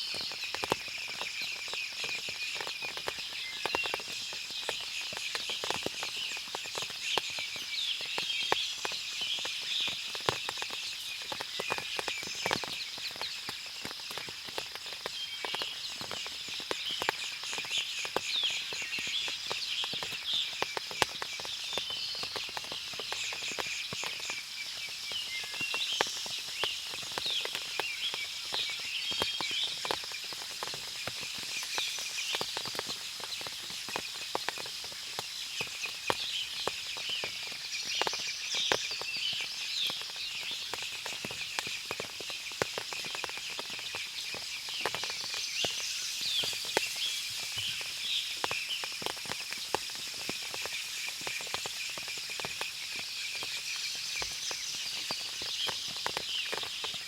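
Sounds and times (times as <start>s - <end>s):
water dripping from leaves: 0.0s - 57.0s.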